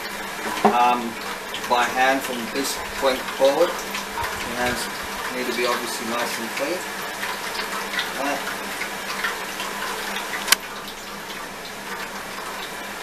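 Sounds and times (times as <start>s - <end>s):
steady hiss: 0.0s - 10.6s.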